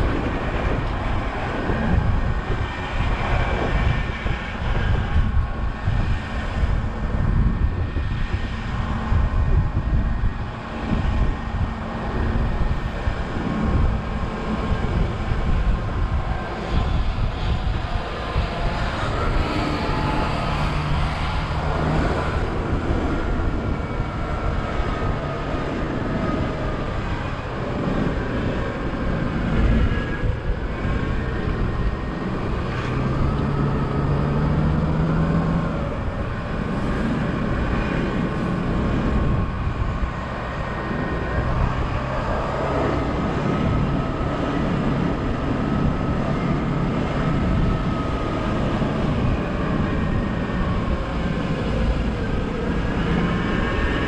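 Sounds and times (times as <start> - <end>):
bus engine running: 0.0 - 54.0
road noise: 0.0 - 54.0.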